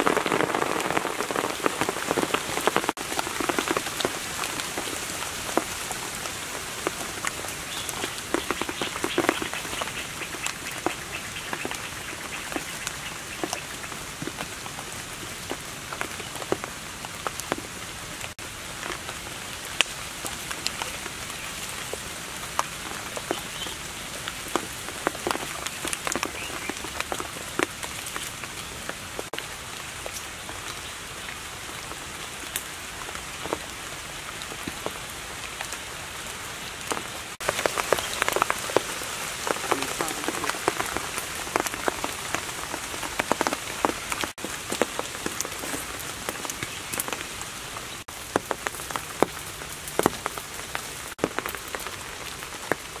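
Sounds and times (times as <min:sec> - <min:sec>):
rain pattering on leaves: 0:00.0 - 0:53.0.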